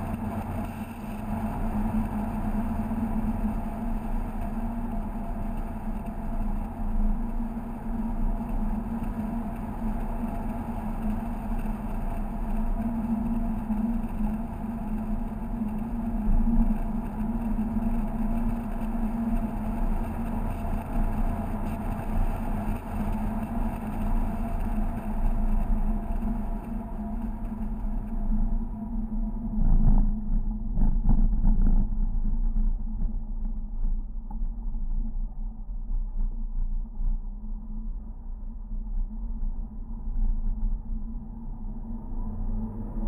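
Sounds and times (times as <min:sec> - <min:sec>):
car engine drone: 0:00.0 - 0:35.1, 0:39.4 - 0:43.0
road and wind noise: 0:00.0 - 0:36.0, 0:38.6 - 0:43.0.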